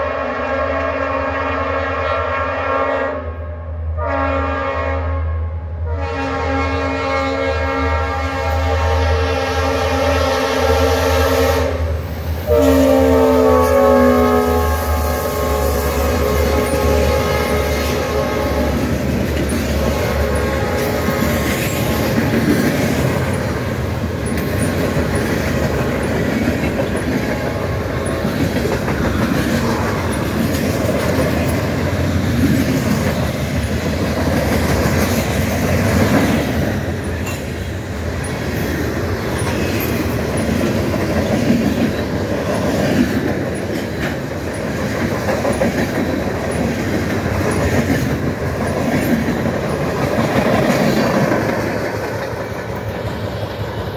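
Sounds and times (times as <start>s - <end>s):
freight train cars rolling past: 0.0s - 53.9s.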